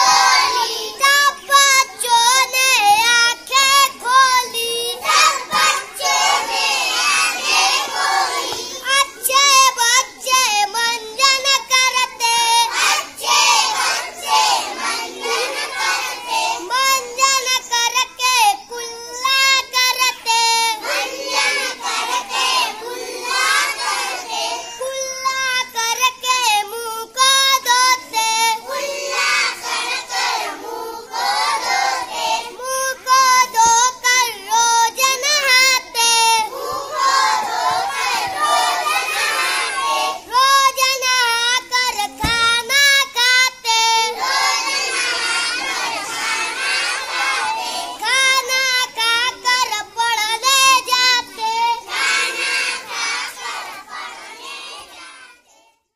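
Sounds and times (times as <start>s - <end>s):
boy singing: 0.0s - 55.3s
children singing together: 0.0s - 55.9s.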